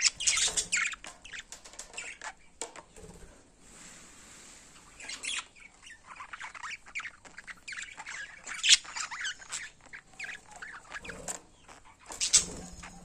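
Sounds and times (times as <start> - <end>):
budgerigars chattering: 0.0 - 2.6, 5.0 - 13.0.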